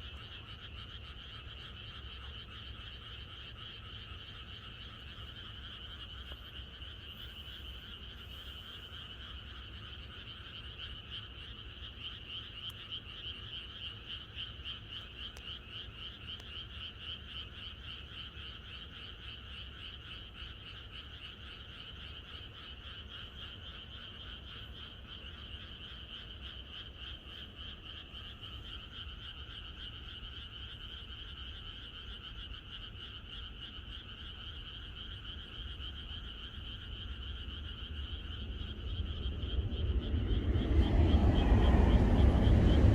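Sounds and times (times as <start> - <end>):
chorus of frogs croaking: 0.0 - 42.9.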